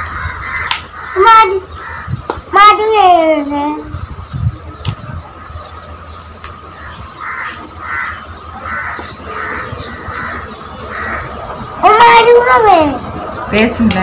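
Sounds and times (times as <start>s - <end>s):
bird harsh calls: 0.0s - 14.0s.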